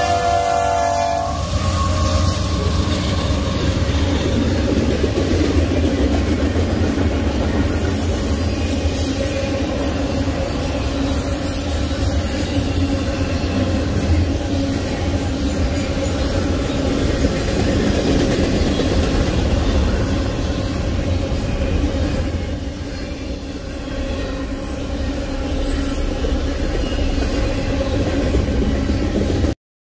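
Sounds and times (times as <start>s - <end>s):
freight train rolling past: 0.0s - 29.6s.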